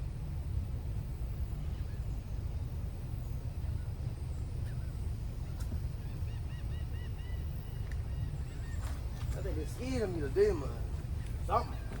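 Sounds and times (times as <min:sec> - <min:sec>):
wind buffeting microphone: 0:00.0 - 0:12.0
faint bird calls: 0:01.4 - 0:02.6, 0:03.2 - 0:12.0.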